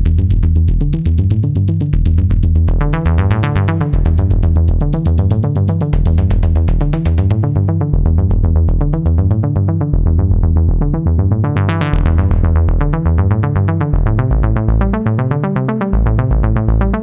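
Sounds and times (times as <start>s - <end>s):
heavy synth bass line: 0.0s - 17.0s.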